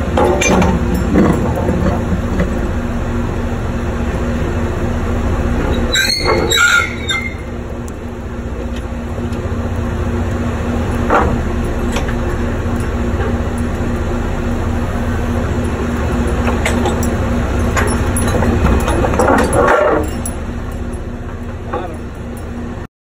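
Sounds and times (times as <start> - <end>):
drilling rig machinery rumbling: 0.0 - 22.9.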